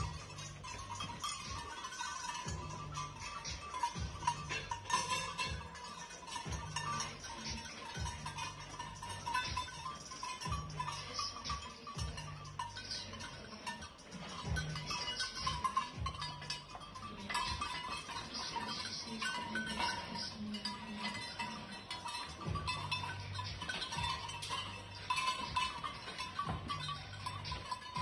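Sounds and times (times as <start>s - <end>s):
hooves clattering: 0.0s - 28.0s.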